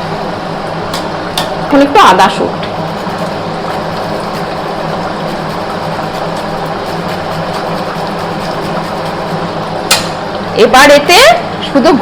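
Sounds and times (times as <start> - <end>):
electric fan whirring: 0.0 - 12.0
faint low motor hum: 0.0 - 12.0.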